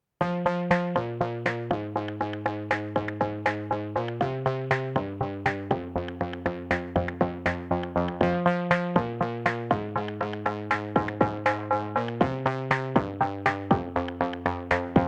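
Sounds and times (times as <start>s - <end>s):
electronic synthesizer music: 0.2s - 15.0s.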